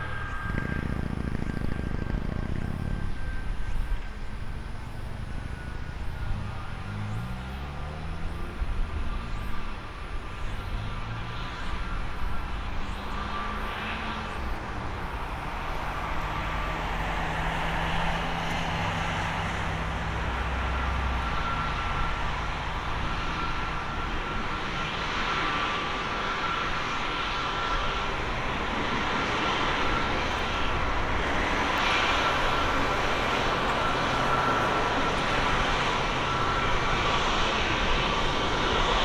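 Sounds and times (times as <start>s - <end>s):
jet engines whining: 0.0s - 39.0s.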